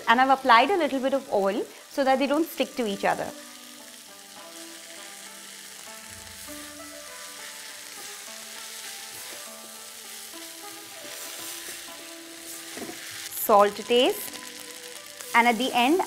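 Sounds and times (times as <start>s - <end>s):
food sizzling in a wok: 0.0s - 16.0s
soft background music: 0.0s - 16.0s.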